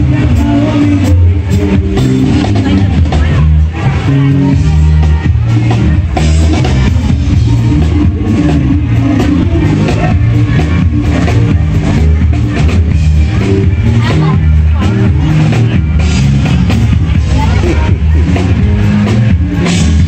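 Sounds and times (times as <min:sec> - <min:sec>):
loud rock music: 0:00.0 - 0:20.0.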